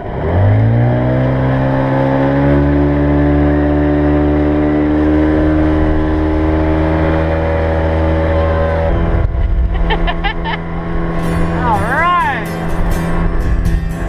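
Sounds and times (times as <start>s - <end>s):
motorboat engine at high throttle: 0.0s - 13.8s.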